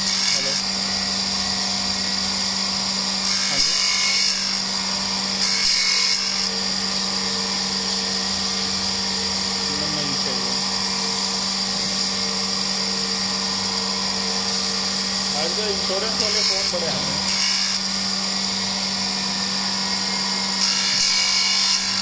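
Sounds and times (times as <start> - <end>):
grinder hiss: 0.0 - 22.0
grinder hum with high whine: 0.0 - 22.0.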